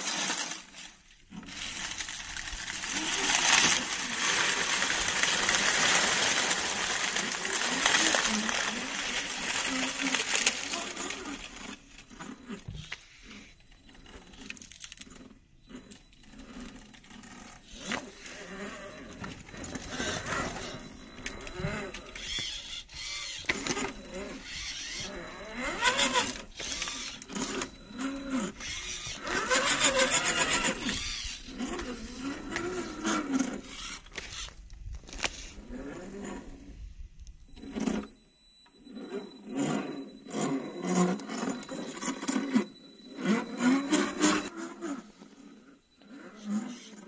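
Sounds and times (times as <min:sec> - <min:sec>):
electric motor and gearbox whining: 0:00.0 - 0:47.0.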